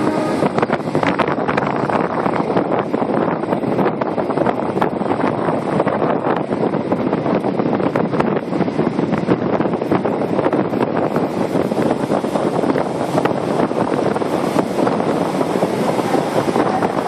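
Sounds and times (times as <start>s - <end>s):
electric train running on rails: 0.0s - 17.0s
wind buffeting microphone: 0.0s - 17.0s.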